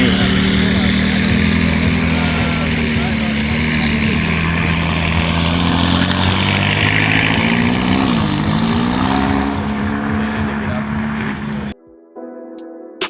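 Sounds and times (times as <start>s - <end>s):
car engine fast idle: 0.0s - 11.7s.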